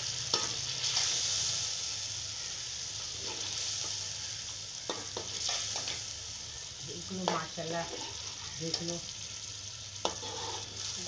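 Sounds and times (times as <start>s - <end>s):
curry sizzling in a metal pan: 0.0s - 11.0s.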